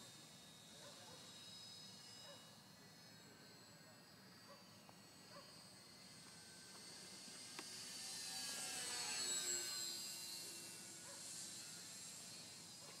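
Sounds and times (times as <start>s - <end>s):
model plane propeller whine: 0.0s - 13.0s.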